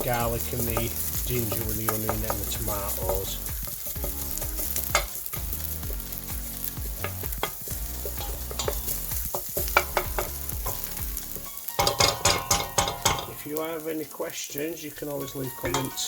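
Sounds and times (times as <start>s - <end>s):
utensil scraping a pan: 0.0s - 13.4s, 15.1s - 16.0s
food sizzling in a pan: 0.0s - 16.0s.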